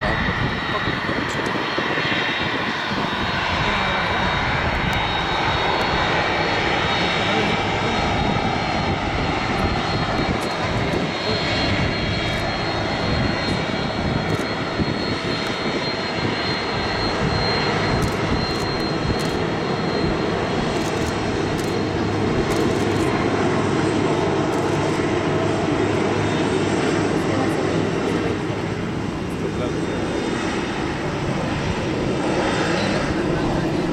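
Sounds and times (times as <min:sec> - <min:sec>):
jet engines at taxi power: 0:00.0 - 0:33.9.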